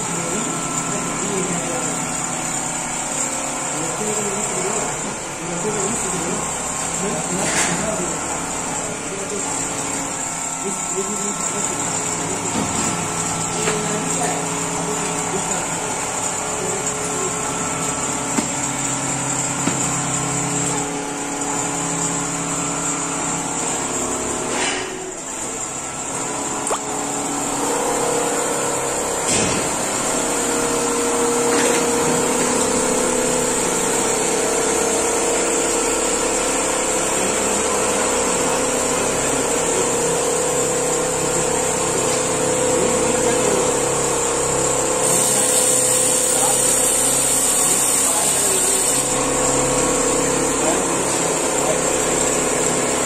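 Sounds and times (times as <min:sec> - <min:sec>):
quilting machine humming: 0:00.0 - 0:53.0.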